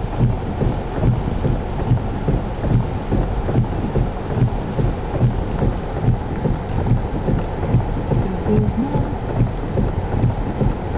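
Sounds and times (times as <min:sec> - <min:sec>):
gusts thumping against truck: 0:00.0 - 0:10.9
wind rumble inside truck cab: 0:00.0 - 0:10.9.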